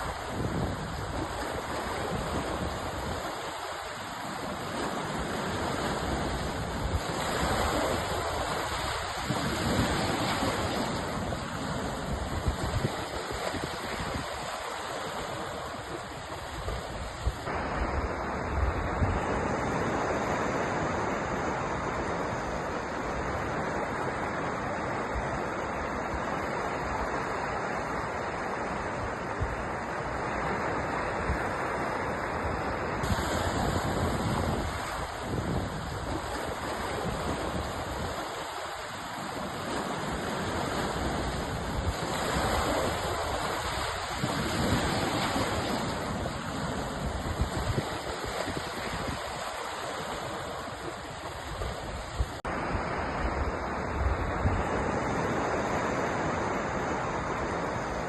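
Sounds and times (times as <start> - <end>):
sea waves washing onto shore: 0.0 - 58.0.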